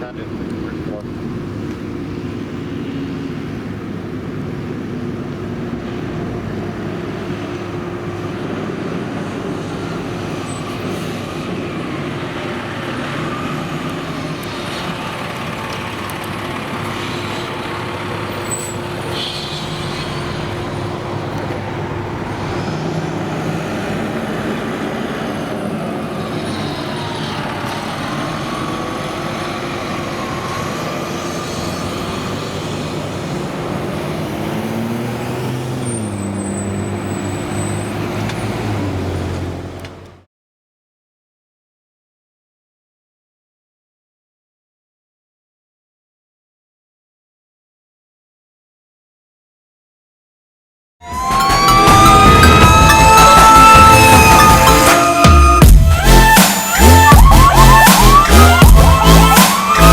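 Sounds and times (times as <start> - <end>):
fire engines running: 0.0 - 40.3, 51.0 - 59.9
traffic noise: 0.0 - 40.3, 51.0 - 59.9.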